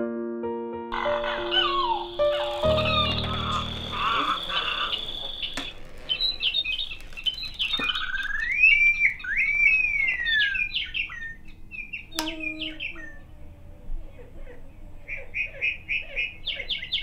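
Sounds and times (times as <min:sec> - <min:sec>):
bird-like chirps and whistles: 0:01.0 - 0:13.2, 0:15.1 - 0:17.0.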